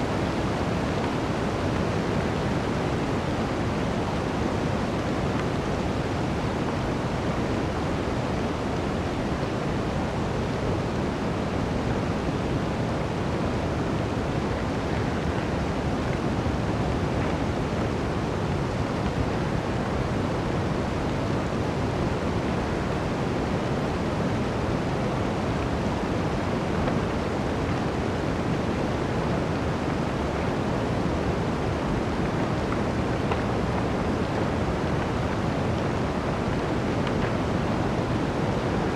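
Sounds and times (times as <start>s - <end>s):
wind blowing through forest: 0.0s - 38.9s.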